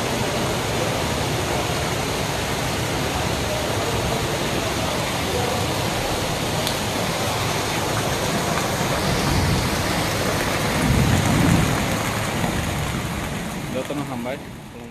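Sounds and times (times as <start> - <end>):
rain falling: 0.0 - 14.9.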